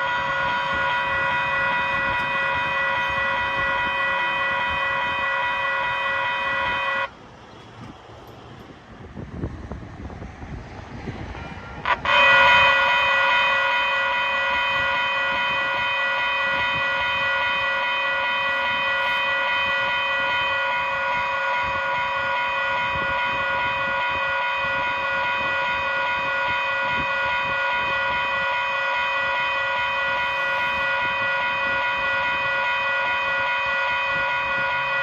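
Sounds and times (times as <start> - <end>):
electronic railroad crossing bells: 0.0 - 8.7, 11.8 - 35.0.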